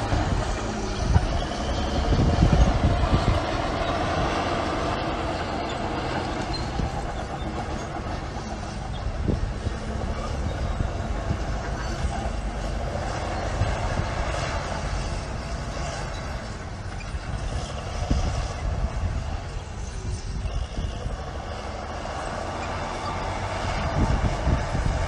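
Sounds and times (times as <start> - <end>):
diesel engine deep rumble: 0.0 - 25.0.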